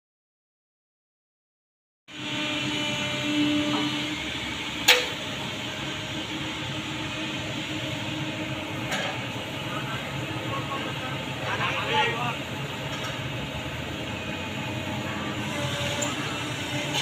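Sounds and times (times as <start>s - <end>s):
excavator engine droning: 2.1s - 17.0s.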